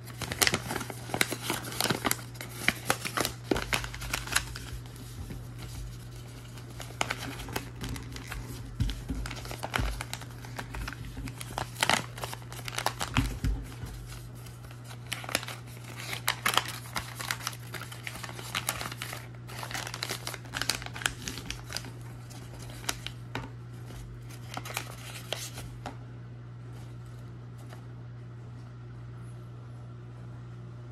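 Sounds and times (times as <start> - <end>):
paper rustling and crinkling: 0.0 - 26.0, 26.7 - 27.9
low steady hum: 0.0 - 30.9.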